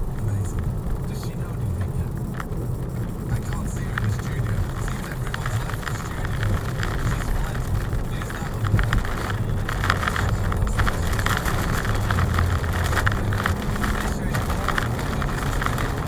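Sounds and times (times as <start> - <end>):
engine and road drone: 0.0 - 16.0
faint crackling ticks: 0.0 - 16.0.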